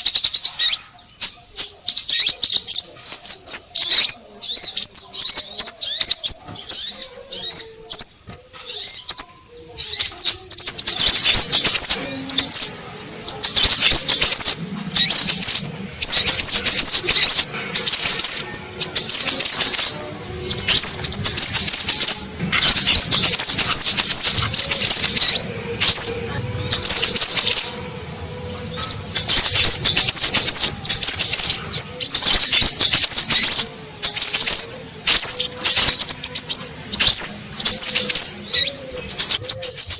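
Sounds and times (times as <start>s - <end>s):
rapid high bird chirps: 0.0s - 39.9s.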